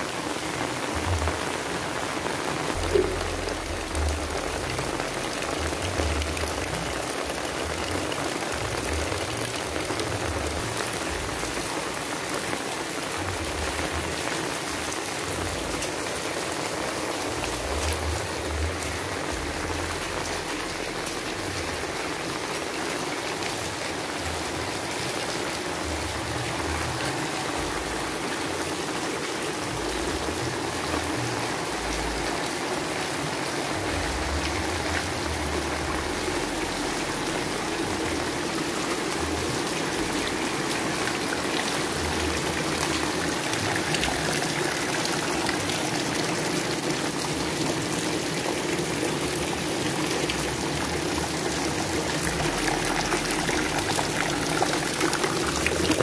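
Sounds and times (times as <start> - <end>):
rain on wet ground: 0.0 - 56.0.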